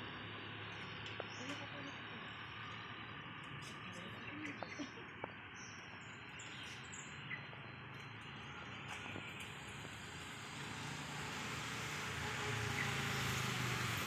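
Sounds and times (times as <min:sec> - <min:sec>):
faint street noise: 0:00.0 - 0:14.0.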